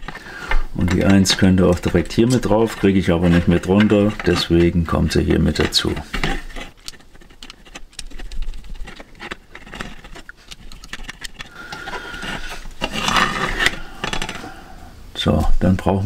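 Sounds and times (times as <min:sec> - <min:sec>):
plastic and wires rustling: 0:00.0 - 0:14.6.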